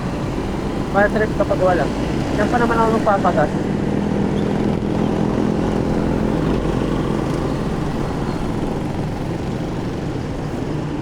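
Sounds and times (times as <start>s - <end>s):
road and wind noise: 0.0s - 11.0s
vehicle engine hum: 0.0s - 11.0s.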